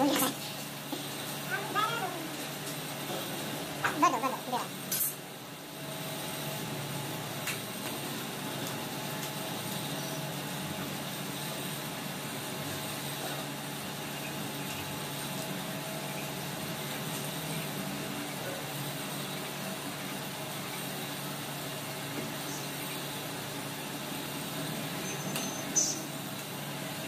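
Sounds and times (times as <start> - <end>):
mechanical hum and hiss: 0.0 - 27.0.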